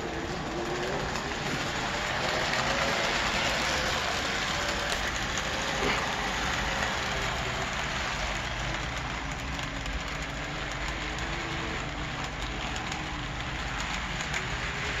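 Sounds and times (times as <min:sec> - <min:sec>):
model train wheels rolling on rail: 0:00.0 - 0:15.0.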